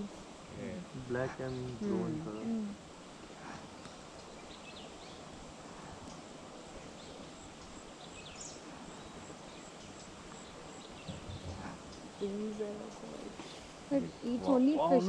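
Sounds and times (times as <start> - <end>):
faint bird chirps: 0.0 - 2.5, 3.5 - 15.0
steady background hiss: 0.0 - 15.0.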